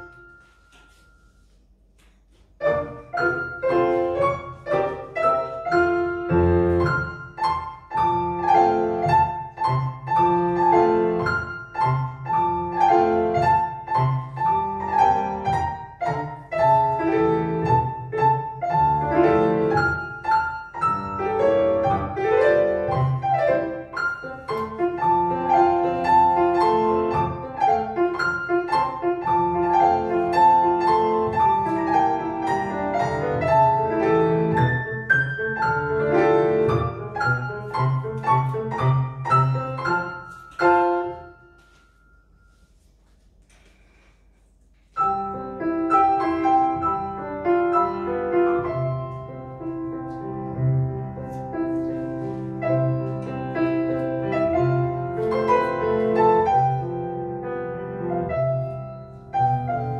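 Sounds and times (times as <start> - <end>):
classical piano music: 0.0 - 59.9.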